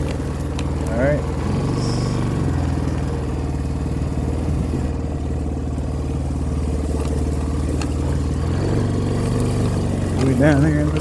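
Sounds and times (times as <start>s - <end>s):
light rattles: 0.0s - 11.0s
vehicle engine running: 0.0s - 11.0s.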